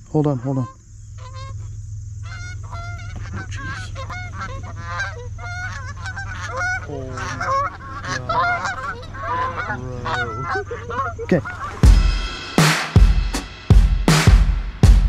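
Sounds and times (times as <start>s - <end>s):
geese honking: 0.0s - 12.6s
steady low hum: 0.0s - 15.0s.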